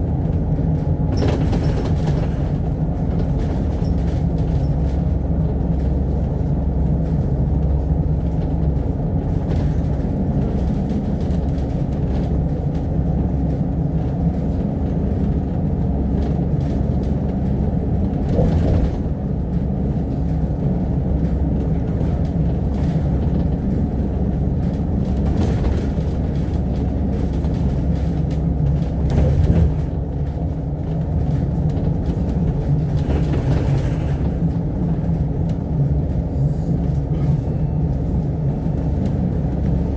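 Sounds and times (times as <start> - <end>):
bus engine and road drone: 0.0 - 39.9.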